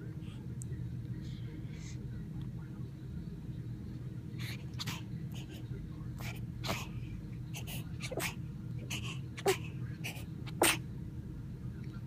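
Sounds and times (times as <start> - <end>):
faint breathy sounds: 0.0 - 3.4, 4.2 - 10.8
steady low hum: 0.0 - 12.0.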